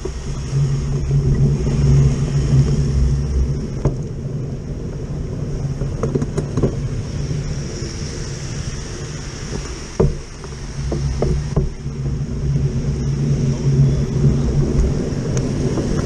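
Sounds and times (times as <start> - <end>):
tyres hissing on wet road: 0.0 - 16.0
vehicle engine droning: 0.0 - 16.0.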